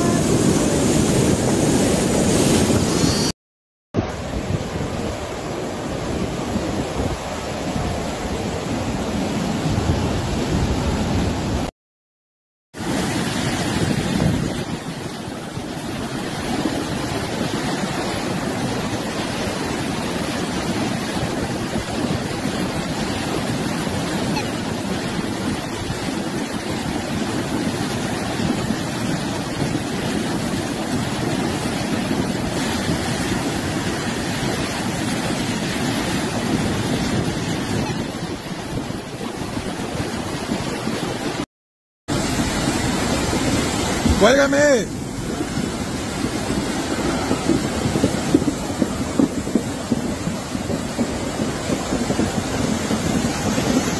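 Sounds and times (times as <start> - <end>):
flood water rushing: 0.0 - 3.3, 12.8 - 41.5, 42.1 - 53.9.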